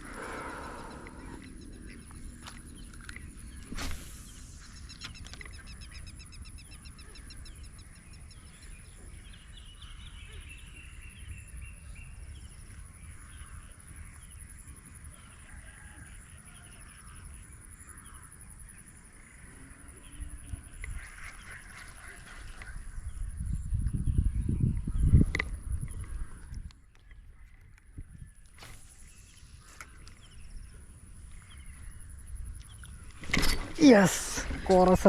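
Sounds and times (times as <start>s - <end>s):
birds chirping: 0.0s - 14.5s, 17.3s - 35.0s
insects trilling: 0.0s - 35.0s.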